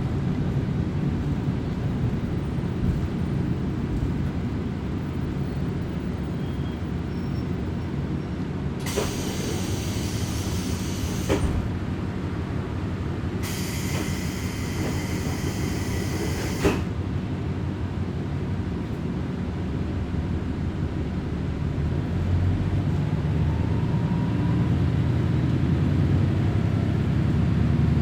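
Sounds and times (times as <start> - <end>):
diesel railcar engine and rolling rumble: 0.0 - 28.0.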